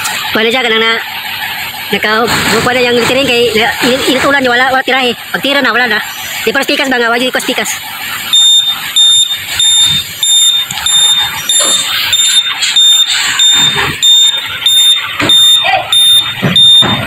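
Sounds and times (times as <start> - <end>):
reversing alarm beeping: 0.0 - 17.0.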